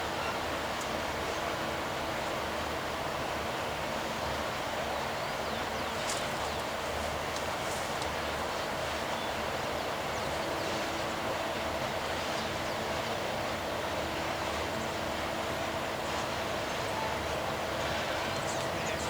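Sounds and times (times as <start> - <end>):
freight train rail rumble: 0.0 - 19.0.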